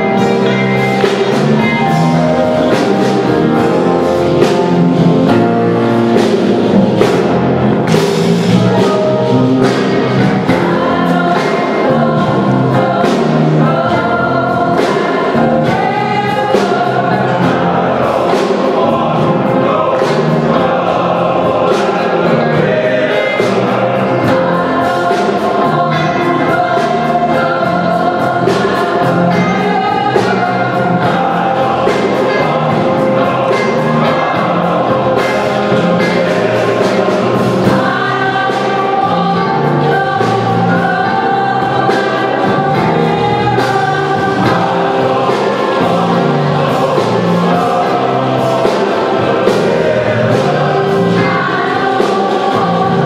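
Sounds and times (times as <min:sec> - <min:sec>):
mixed choir singing gospel: 0:00.0 - 0:53.0
piano accompaniment: 0:00.0 - 0:53.0
steady beat: 0:00.0 - 0:53.0.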